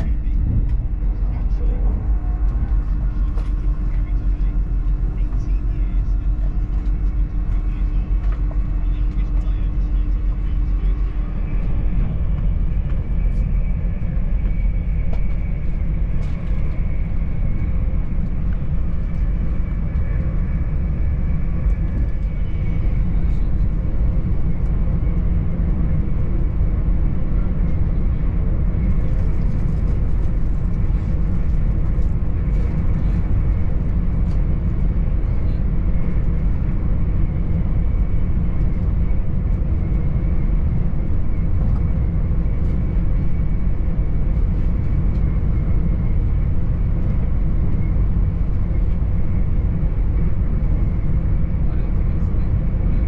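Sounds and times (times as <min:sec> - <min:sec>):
train cabin low rumble: 0:00.0 - 0:53.0.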